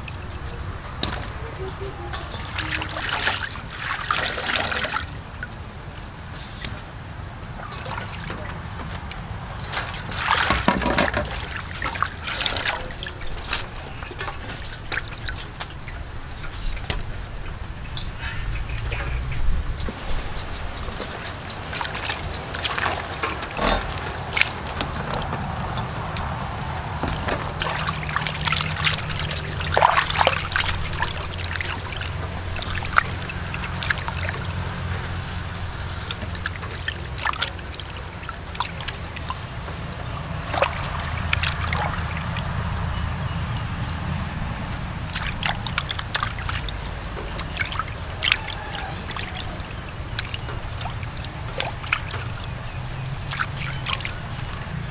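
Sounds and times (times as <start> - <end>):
low steady hum: 0.0 - 54.9
water sloshing and splashing in basin: 0.0 - 54.9.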